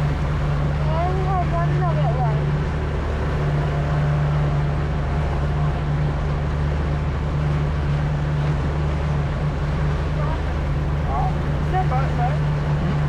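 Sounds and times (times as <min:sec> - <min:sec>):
motorboat engine running: 0:00.0 - 0:13.0
wind and water rushing: 0:00.0 - 0:13.0.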